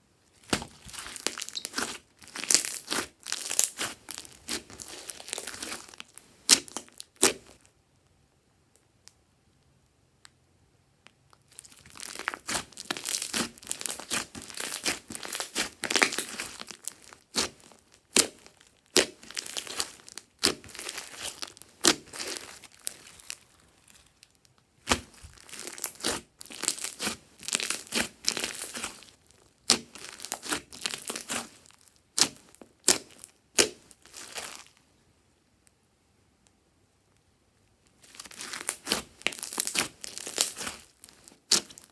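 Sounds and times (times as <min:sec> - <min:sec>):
slime squishing with sticky clicks: 0:00.4 - 0:07.7, 0:11.1 - 0:34.7, 0:38.0 - 0:41.9.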